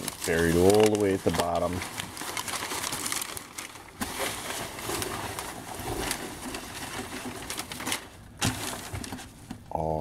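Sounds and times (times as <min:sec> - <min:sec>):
packing material rustling: 0:00.0 - 0:09.7.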